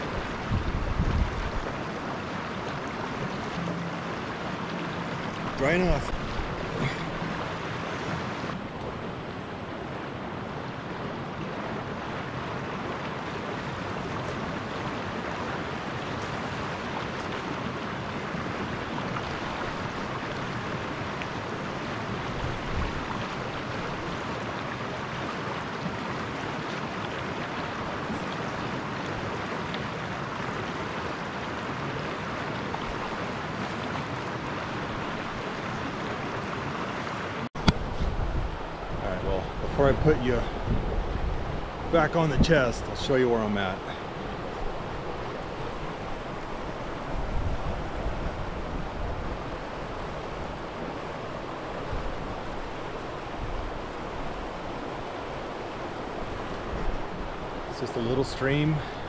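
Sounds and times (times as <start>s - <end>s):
mountain stream rushing: 0.0s - 59.0s.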